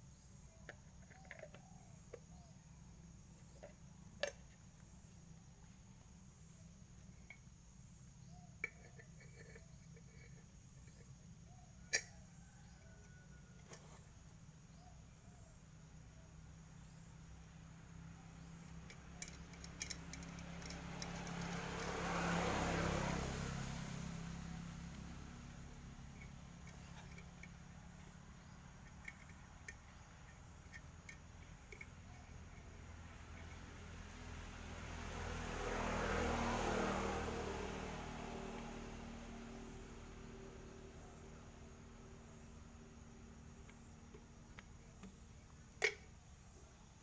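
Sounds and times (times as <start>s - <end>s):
motor vehicle passing by: 6.5s - 14.0s, 16.8s - 47.0s.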